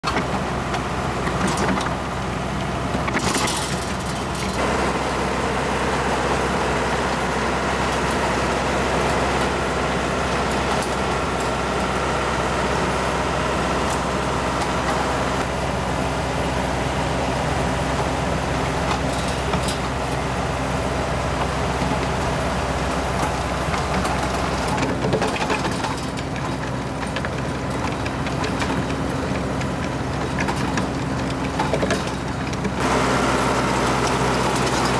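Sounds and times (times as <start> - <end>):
rotor churning soil: 0.0 - 34.9
tractor engine running under load: 0.0 - 34.9.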